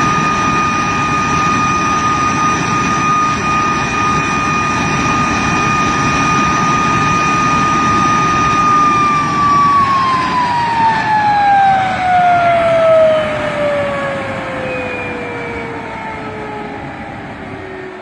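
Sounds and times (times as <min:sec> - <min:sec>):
jet engine rushing and whining: 0:00.0 - 0:18.0.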